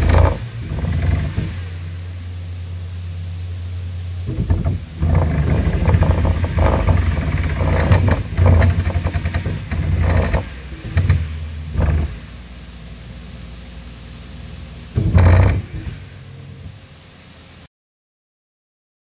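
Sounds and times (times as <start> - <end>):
low machine hum: 0.0 - 17.7.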